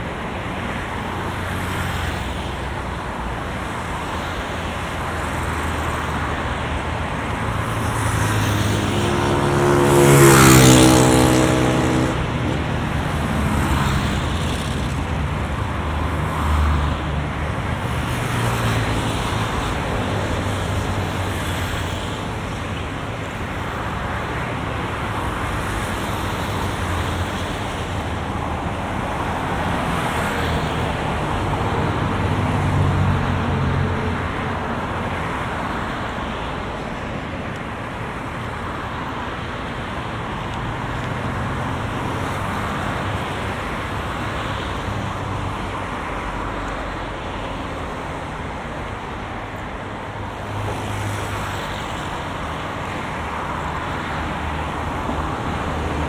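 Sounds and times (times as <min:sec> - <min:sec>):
road traffic going by: 0:00.0 - 0:56.0.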